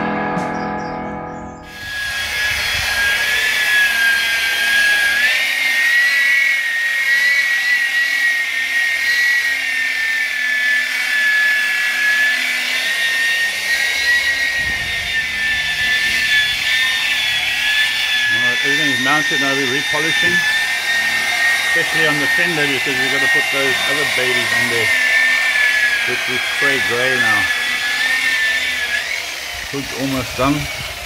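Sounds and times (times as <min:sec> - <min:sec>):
rotary polisher motor whine: 0:01.6 - 0:31.0.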